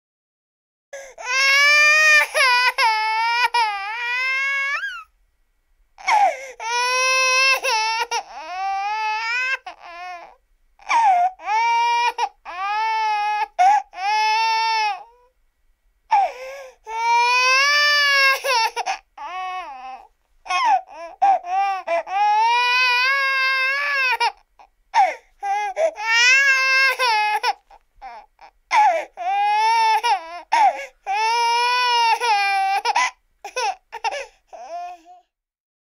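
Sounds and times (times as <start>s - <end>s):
baby crying: 1.0s - 5.1s, 6.0s - 15.3s, 16.1s - 35.4s.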